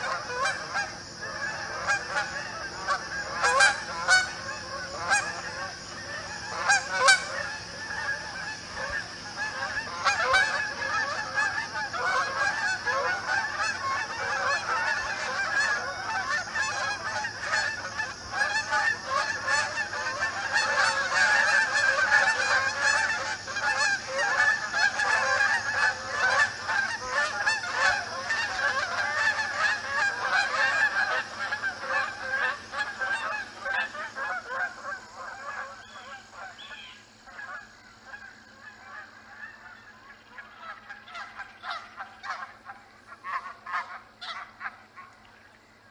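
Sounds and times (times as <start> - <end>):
geese honking: 0.0 - 45.9.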